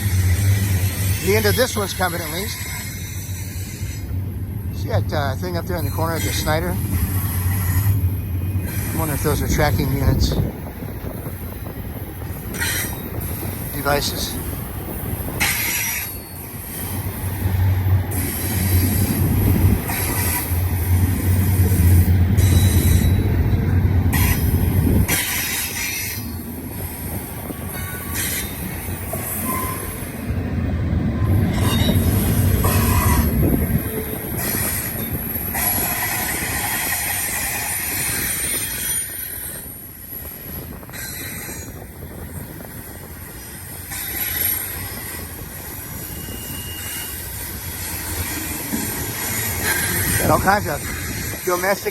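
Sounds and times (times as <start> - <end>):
train wheels squealing on rail: 0.0 - 30.2, 31.1 - 51.9.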